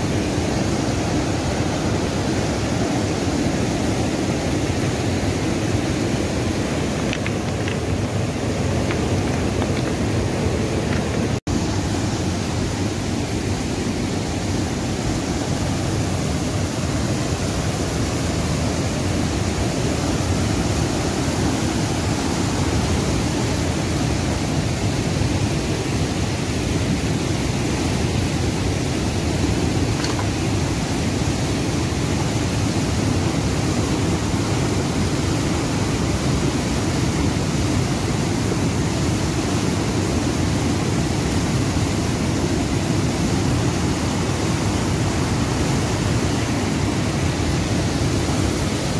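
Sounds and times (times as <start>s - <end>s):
river rushing over rocks: 0.0s - 48.9s.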